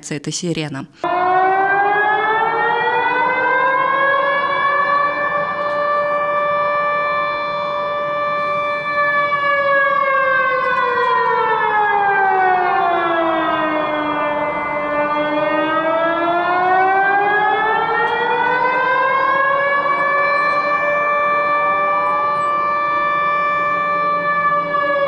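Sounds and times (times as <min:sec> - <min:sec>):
warning siren wailing: 0:01.0 - 0:25.0.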